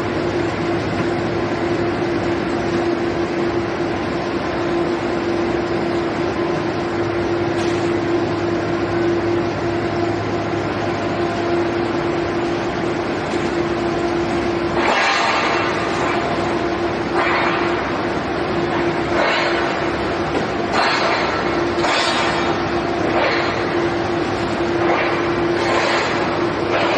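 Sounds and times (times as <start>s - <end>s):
industrial machinery hum: 0.0s - 26.9s.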